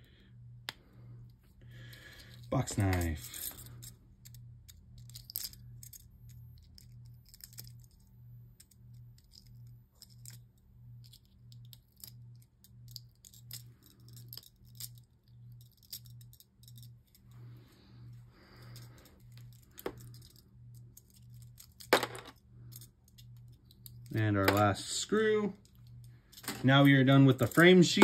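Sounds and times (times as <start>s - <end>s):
low pulsing hum: 0.0s - 28.0s.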